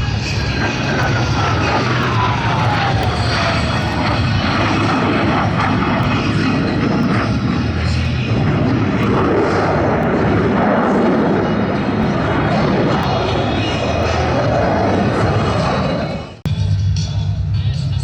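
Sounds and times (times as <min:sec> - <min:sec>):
falling whine of passing jet: 0:00.0 - 0:16.4
jet engines roaring: 0:00.0 - 0:18.0.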